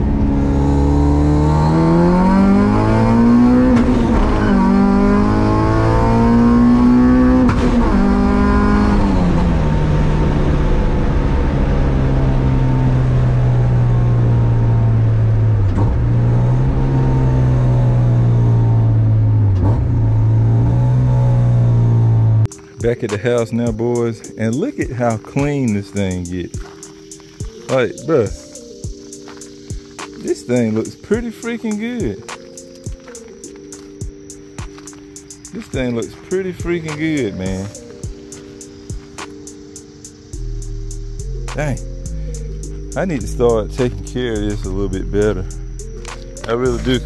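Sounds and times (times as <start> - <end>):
car engine revving: 0.0 - 22.8, 24.5 - 47.0.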